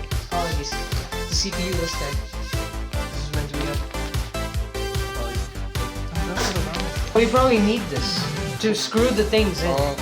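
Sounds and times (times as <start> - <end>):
electronic music with fast beat: 0.0 - 10.0.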